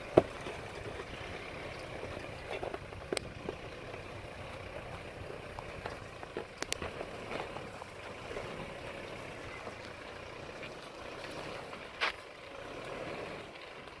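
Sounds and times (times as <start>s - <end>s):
pickup engine running: 0.0s - 14.0s.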